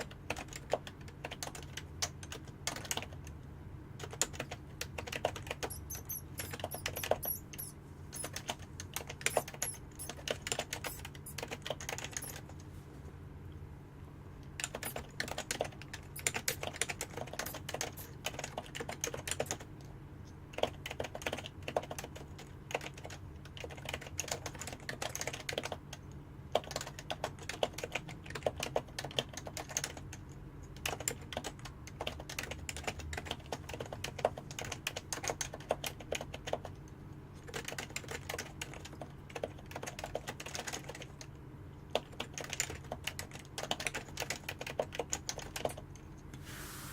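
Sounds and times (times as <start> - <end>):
fast typing on keyboard: 0.0 - 3.3, 4.0 - 12.6, 14.6 - 19.9, 20.5 - 46.0.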